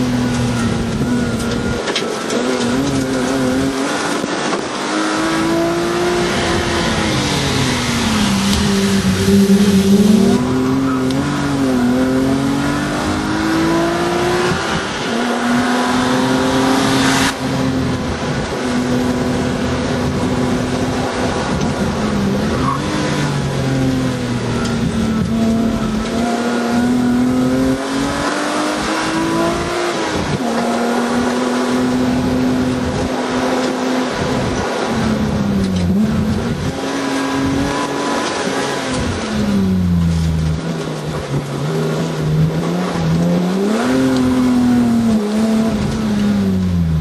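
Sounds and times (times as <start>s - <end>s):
car engine at high revs: 0.0s - 47.0s.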